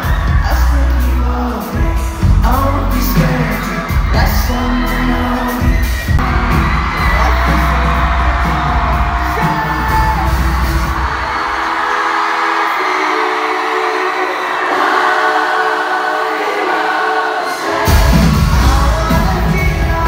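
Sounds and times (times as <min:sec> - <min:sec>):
crowd noise: 0:00.0 - 0:20.0
live pop band with vocals: 0:00.0 - 0:20.0.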